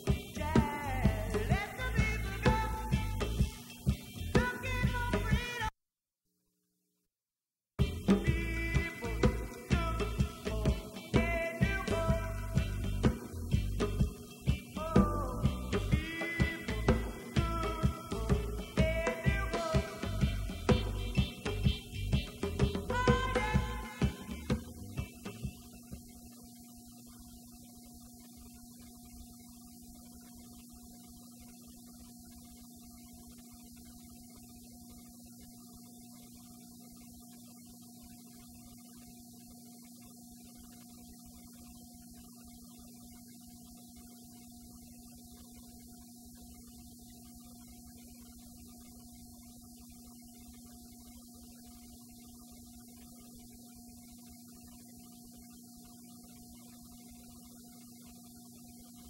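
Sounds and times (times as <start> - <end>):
constant hiss: 0.0 - 5.7, 7.8 - 59.0
electrical hum: 0.0 - 5.7, 7.8 - 59.0.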